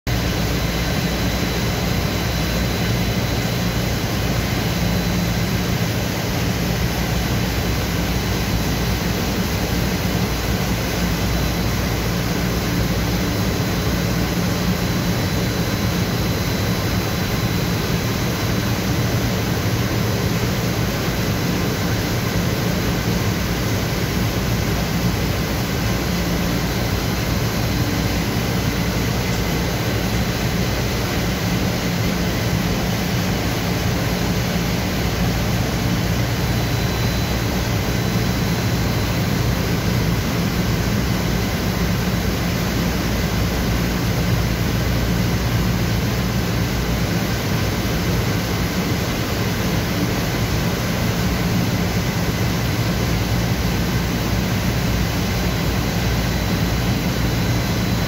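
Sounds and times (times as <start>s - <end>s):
faint high whine: 0.1s - 58.0s.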